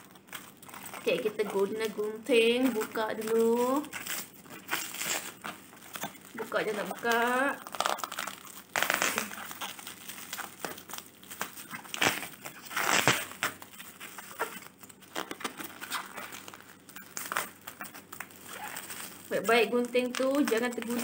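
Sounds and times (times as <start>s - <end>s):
bubble wrap crinkling: 0.0s - 21.0s.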